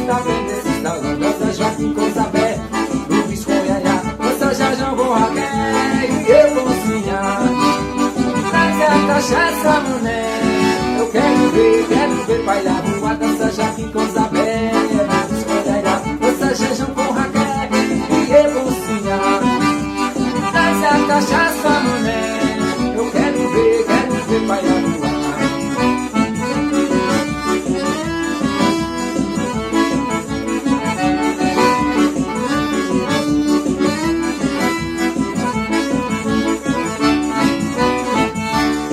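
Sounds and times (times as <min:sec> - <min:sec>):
accordion melody: 0:00.0 - 0:38.9
driving percussion beat: 0:00.0 - 0:38.9.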